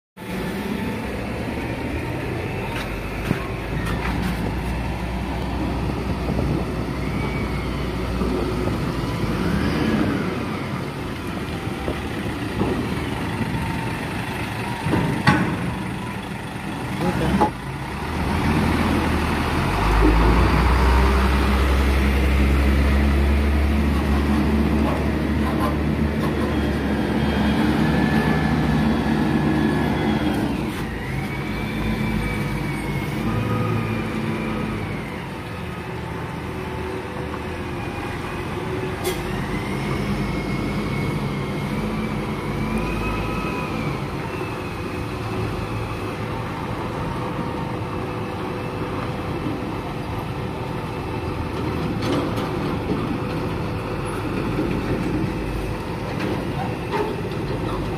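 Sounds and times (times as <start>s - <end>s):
diesel truck engine rumbling: 0.2s - 57.9s.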